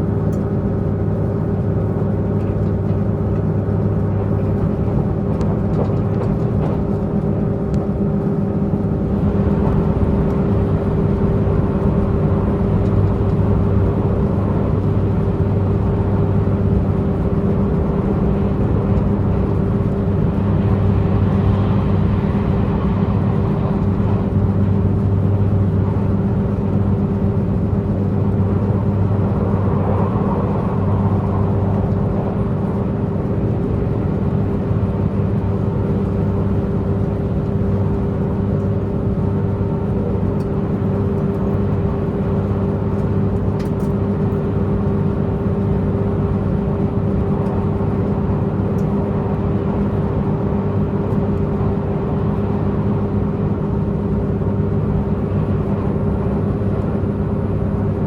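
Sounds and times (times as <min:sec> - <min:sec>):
train diesel engine droning: 0:00.0 - 0:58.0.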